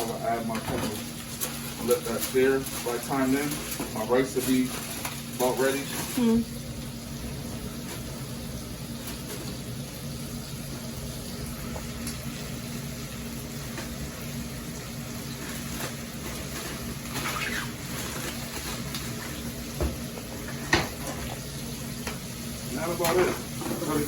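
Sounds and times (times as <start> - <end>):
meat and peppers sizzling in a pan: 0.0 - 24.0.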